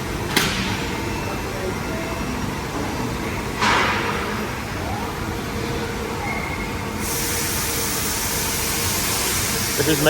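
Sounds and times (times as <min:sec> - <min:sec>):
factory machinery running: 0:00.0 - 0:10.0.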